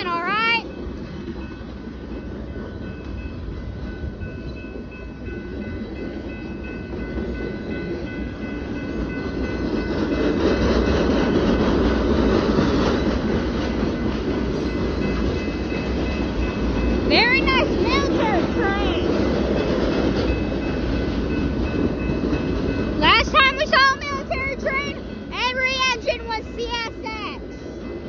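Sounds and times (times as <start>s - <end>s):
train wheels rumbling and clacking: 0.0s - 28.0s.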